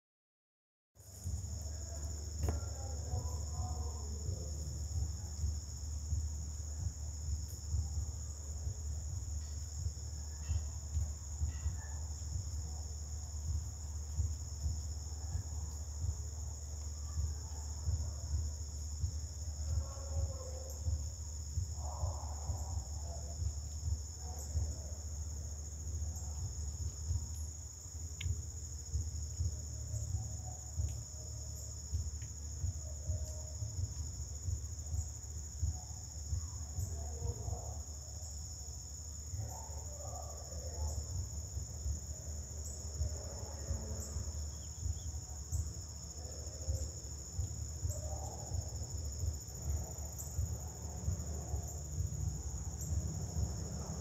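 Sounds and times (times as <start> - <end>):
insects droning: 1.0 - 54.0
low rumble: 1.0 - 54.0.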